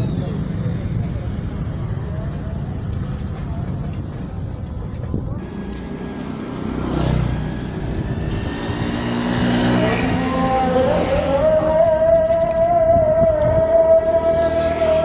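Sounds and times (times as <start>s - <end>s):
motorcycle engines passing: 0.0s - 15.0s
road and wind noise: 0.0s - 15.0s.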